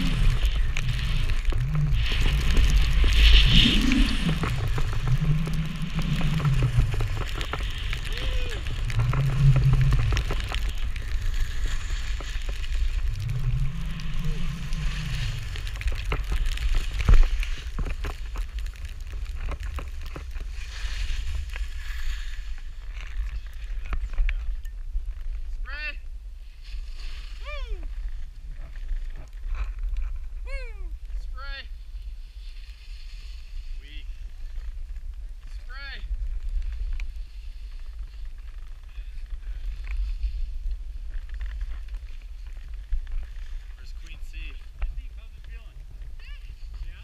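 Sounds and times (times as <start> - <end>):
skis hissing over snow: 0.0 - 24.6, 25.3 - 29.2, 30.5 - 47.0
wind rumble on microphone: 0.0 - 47.0.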